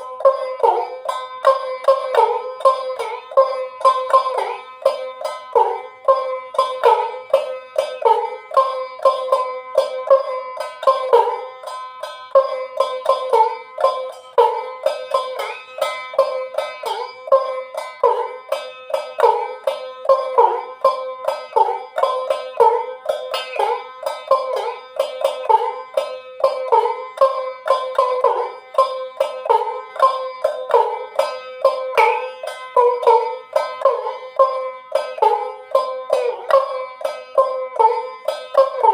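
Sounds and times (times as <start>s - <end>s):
one-string lute plucked: 0.0s - 38.9s.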